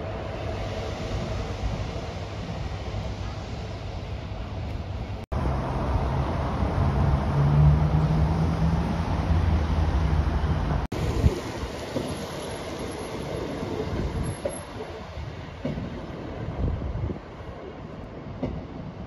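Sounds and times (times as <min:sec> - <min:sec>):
diesel train engine droning: 0:00.0 - 0:19.0
train rolling: 0:00.0 - 0:19.0.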